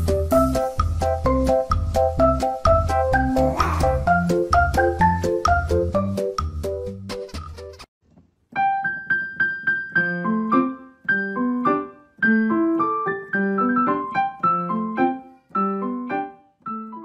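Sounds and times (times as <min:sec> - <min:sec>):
piano music: 0:00.0 - 0:07.3, 0:08.5 - 0:17.0.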